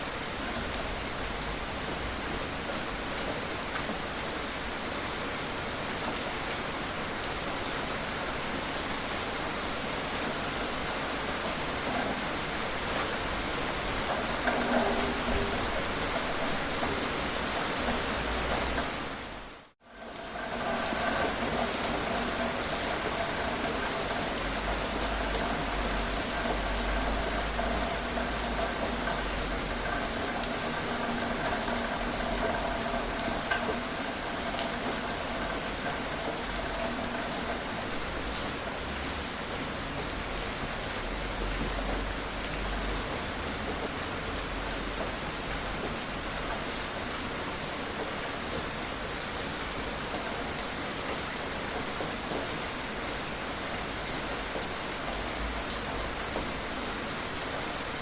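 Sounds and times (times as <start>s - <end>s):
gentle rain hissing: 0.0s - 58.0s
raindrop ticks: 10.2s - 58.0s.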